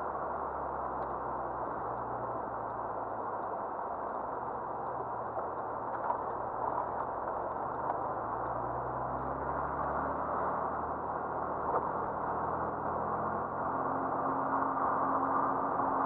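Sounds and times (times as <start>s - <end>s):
car engine: 0.0s - 16.0s.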